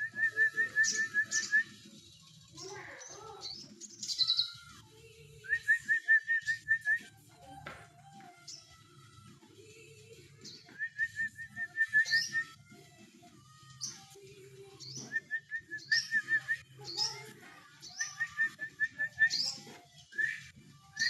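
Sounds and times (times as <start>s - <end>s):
bird song with whistled notes: 0.0s - 4.8s, 5.4s - 9.0s, 10.3s - 12.8s, 13.6s - 21.0s.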